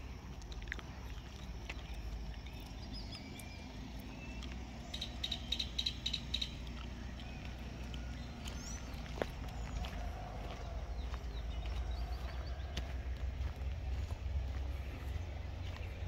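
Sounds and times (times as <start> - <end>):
steady low rumble: 0.0 - 16.0
high chirping calls: 1.2 - 16.0.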